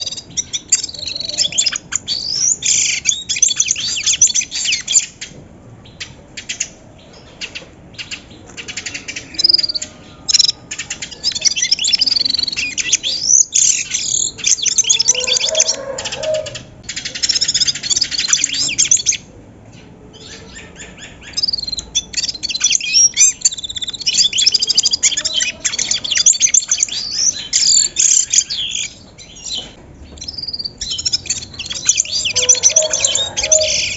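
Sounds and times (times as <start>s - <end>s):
birds chirping and calling: 0.0s - 33.9s.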